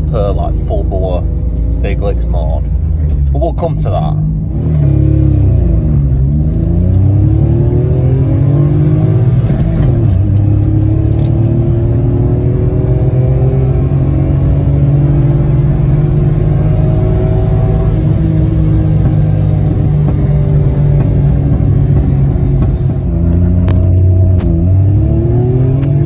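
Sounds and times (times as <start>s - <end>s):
car engine accelerating through gears: 4.0s - 26.0s.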